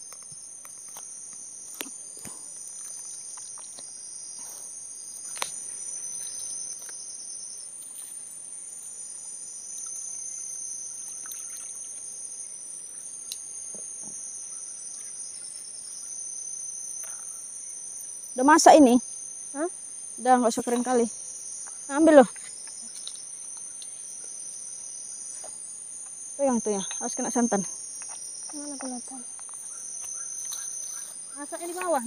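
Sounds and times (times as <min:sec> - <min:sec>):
forest insects chorus: 0:00.0 - 0:32.0.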